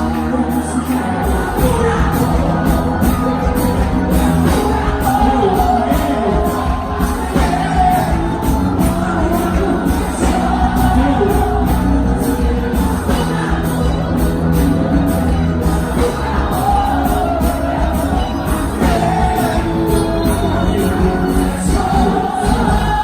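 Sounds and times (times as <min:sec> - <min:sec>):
folk dance music with singing: 0:00.0 - 0:23.0.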